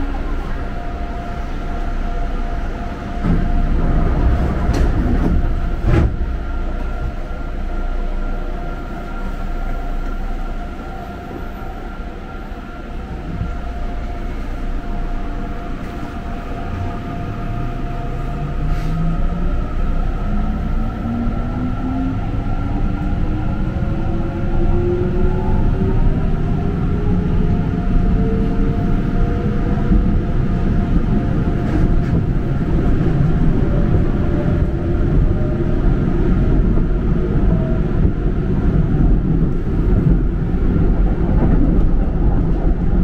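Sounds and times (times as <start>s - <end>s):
rising train whine: 0.0s - 43.0s
train rumbling and humming: 0.0s - 43.0s.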